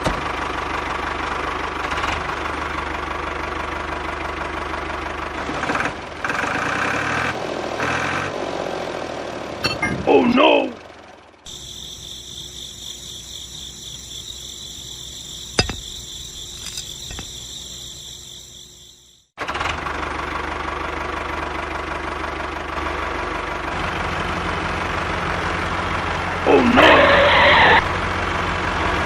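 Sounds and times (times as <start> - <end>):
engine running with low hum: 0.0 - 29.0.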